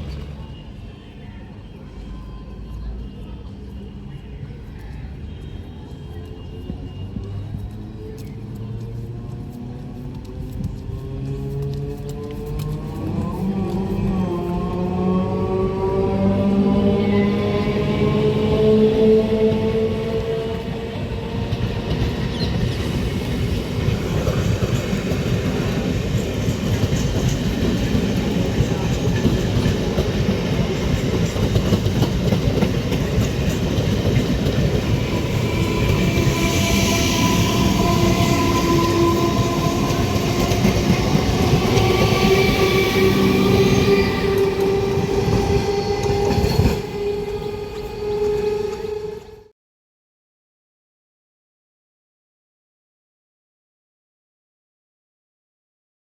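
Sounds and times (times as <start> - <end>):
train whine: 0.0 - 49.5
train wheels rumbling on rail: 4.0 - 49.5.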